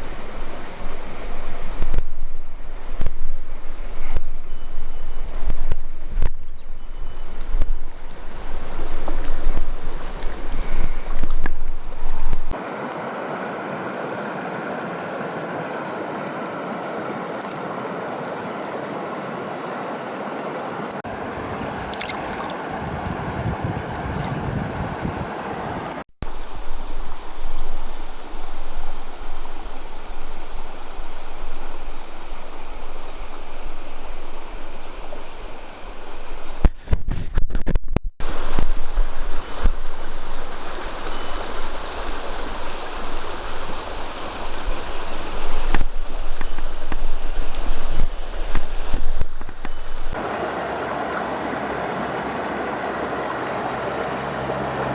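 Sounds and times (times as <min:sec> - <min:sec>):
river water rushing: 0:00.0 - 0:23.0, 0:25.3 - 0:36.6, 0:38.2 - 0:54.9.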